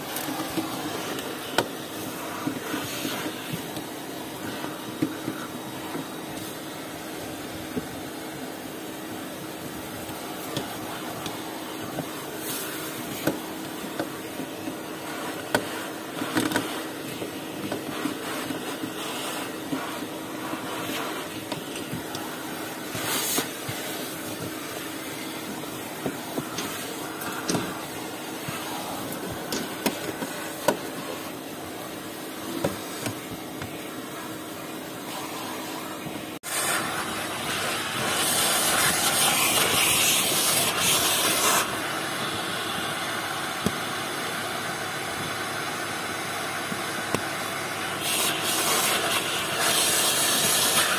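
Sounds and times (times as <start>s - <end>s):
vacuum cleaner humming: 0.0s - 50.9s.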